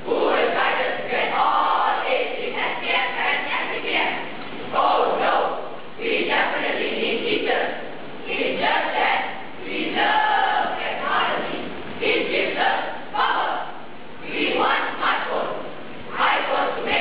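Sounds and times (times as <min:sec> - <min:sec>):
boys reciting in unison: 0:00.0 - 0:17.0.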